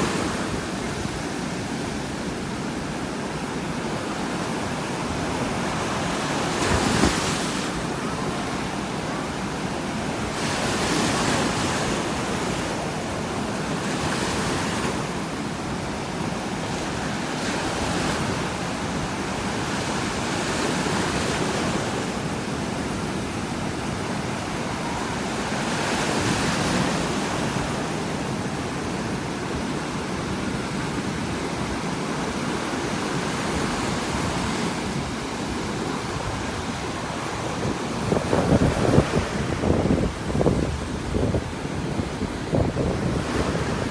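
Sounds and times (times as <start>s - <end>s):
ocean waves crashing on beach: 0.0s - 43.9s.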